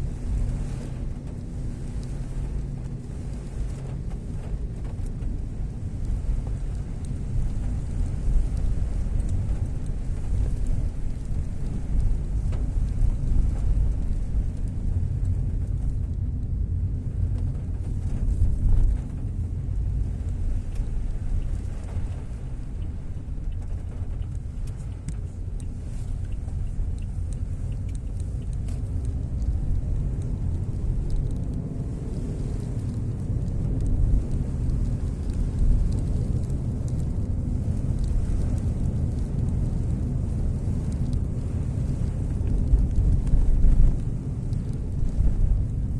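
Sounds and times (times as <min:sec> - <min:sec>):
heavy rain falling: 0:00.0 - 0:45.9
low rumble: 0:00.0 - 0:45.9.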